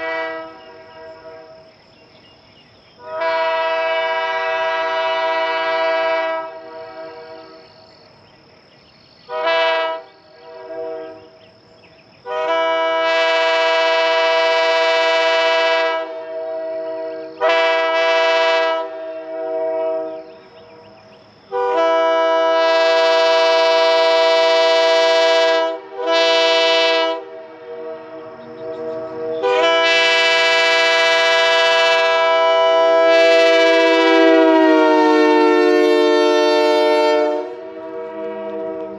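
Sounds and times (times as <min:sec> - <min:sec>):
train horn blasts: 0:00.0 - 0:01.8, 0:03.0 - 0:08.0, 0:09.3 - 0:11.5, 0:12.2 - 0:38.9.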